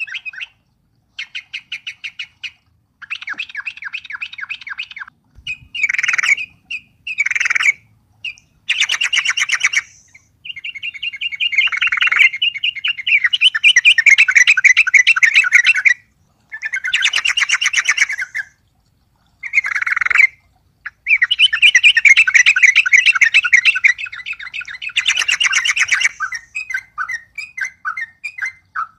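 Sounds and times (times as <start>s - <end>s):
bird chattering song: 1.2s - 18.5s, 19.4s - 28.9s.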